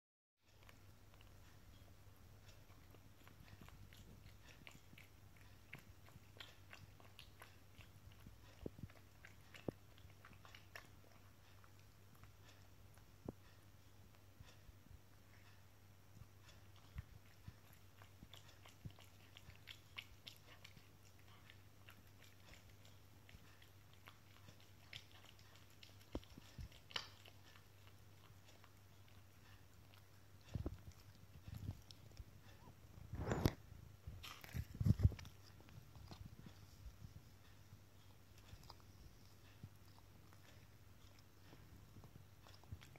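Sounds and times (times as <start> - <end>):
cat chewing and crunching food: 0.4 - 42.9.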